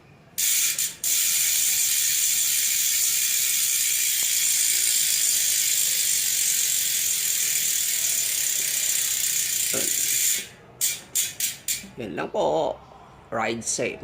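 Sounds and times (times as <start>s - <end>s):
bicycle hub freewheel buzz: 0.4s - 11.9s.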